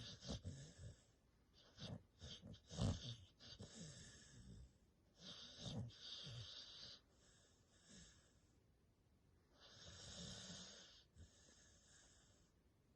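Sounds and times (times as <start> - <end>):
faint snoring: 0.0 - 8.4, 9.6 - 12.5.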